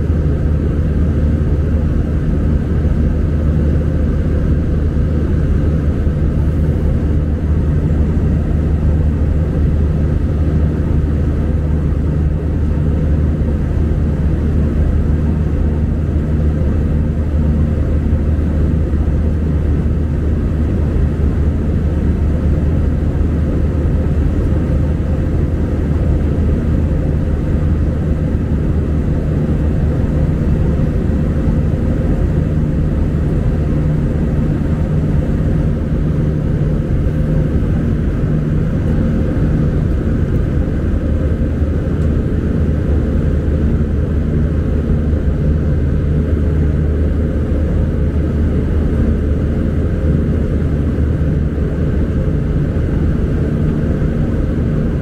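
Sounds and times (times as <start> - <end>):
airliner cabin engine rumble: 0.0 - 55.0
low hum: 0.0 - 55.0.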